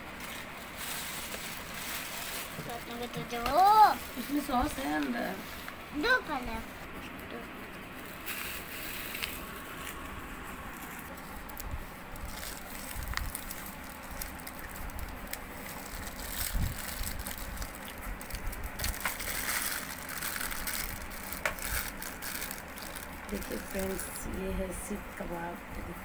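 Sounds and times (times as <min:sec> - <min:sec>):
plastic and foil crinkling: 0:00.0 - 0:25.9.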